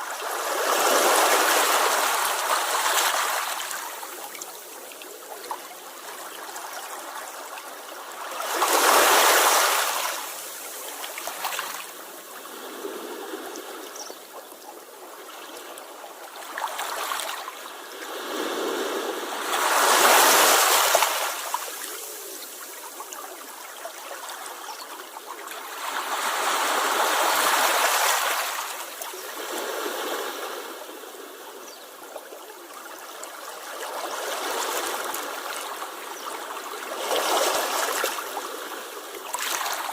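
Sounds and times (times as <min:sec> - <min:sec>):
sea waves washing onto shore: 0:00.0 - 0:32.6.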